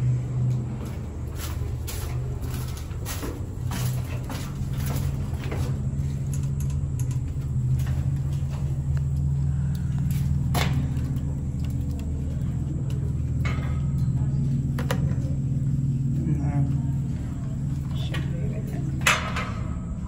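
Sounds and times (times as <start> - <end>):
low droning rumble: 0.0 - 20.0.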